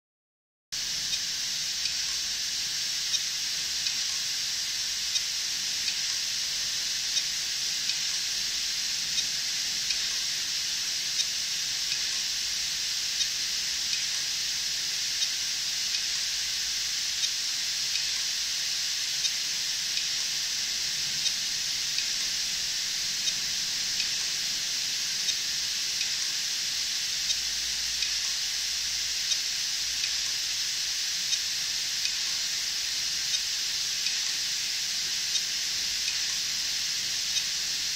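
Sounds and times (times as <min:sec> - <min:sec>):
constant hiss: 0:00.8 - 0:37.9
hard disk drive clicking: 0:00.8 - 0:37.9.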